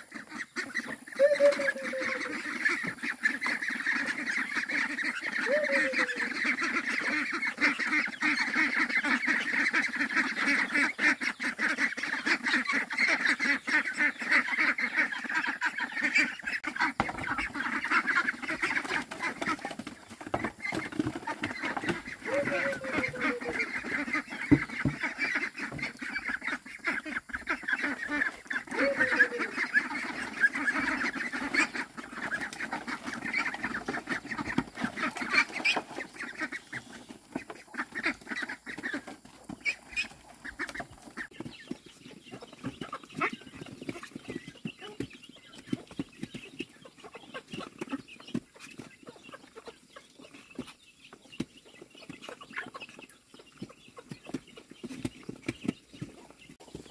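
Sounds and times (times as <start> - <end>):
poultry calling: 0.0 - 56.9.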